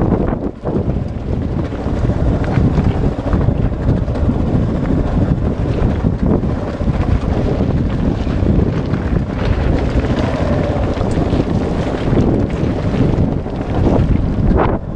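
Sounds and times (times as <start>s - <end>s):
loose rock clattering: 0.0s - 14.9s
motorcycle engine running: 0.0s - 14.9s
wind buffeting microphone: 0.0s - 14.9s.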